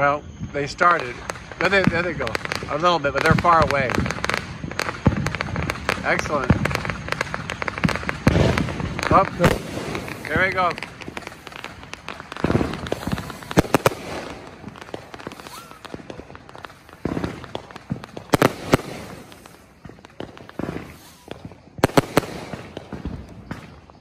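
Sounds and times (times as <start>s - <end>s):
fireworks bangs: 0.0s - 24.0s
fireworks rumble and crackle: 0.0s - 24.0s.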